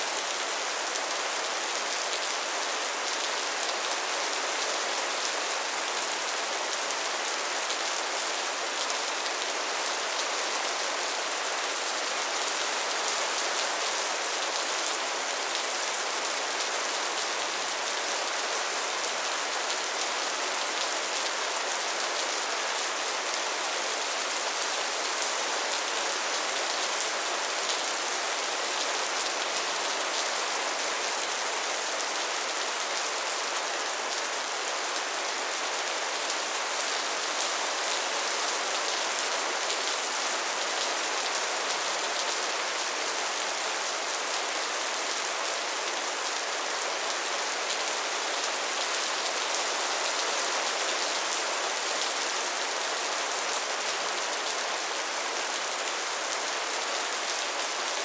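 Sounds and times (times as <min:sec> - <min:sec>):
soft rain falling: 0:00.0 - 0:58.0.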